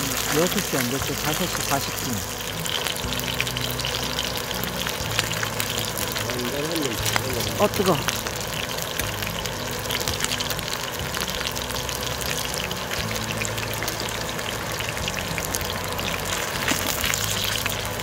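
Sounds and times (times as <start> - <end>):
food sizzling on a griddle: 0.0 - 18.0.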